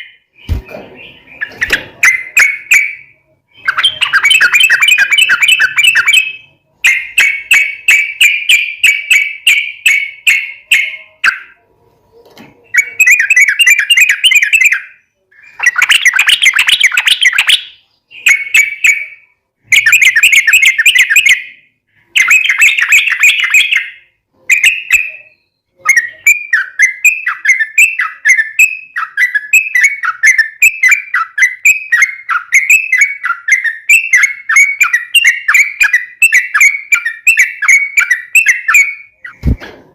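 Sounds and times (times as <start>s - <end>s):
bulbul chattering song: 0.0s - 11.6s, 12.6s - 39.6s.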